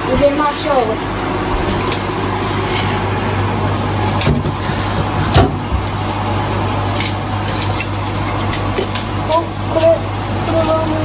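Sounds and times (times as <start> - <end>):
low machine hum and hiss: 0.0 - 11.0.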